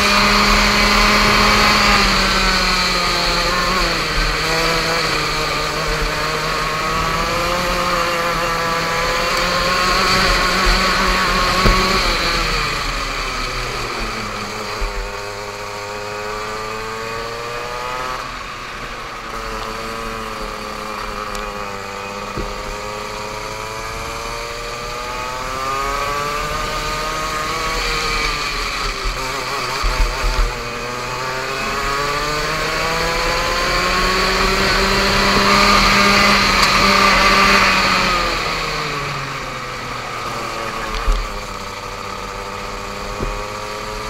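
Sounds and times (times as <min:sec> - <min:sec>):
go-kart engine running: 0:00.0 - 0:44.0.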